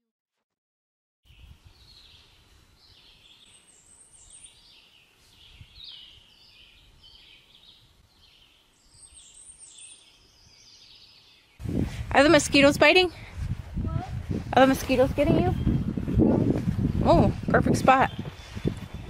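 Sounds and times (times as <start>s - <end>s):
birds chirping: 1.3s - 12.9s, 14.6s - 19.0s.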